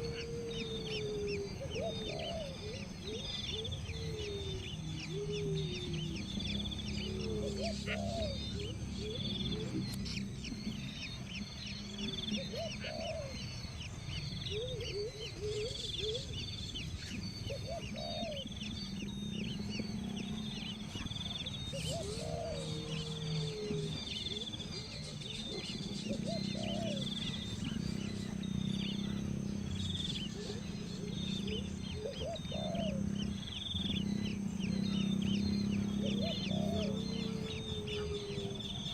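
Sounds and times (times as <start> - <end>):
birds chirping: 0.0 - 38.9
rising and falling bird call: 0.0 - 38.9
steady low hum: 0.0 - 38.9.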